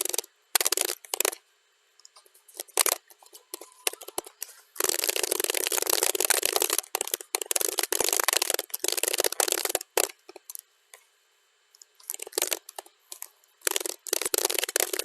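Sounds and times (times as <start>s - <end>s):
keyboard typing: 0.0s - 1.4s, 2.0s - 10.6s, 11.8s - 15.0s.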